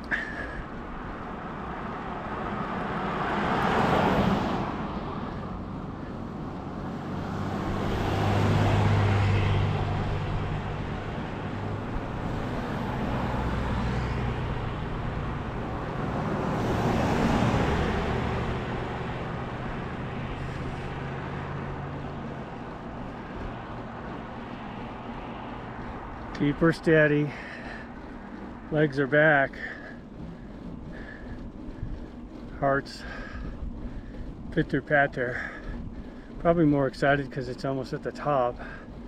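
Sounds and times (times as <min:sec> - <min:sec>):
cars passing on paved road: 0:00.0 - 0:39.0.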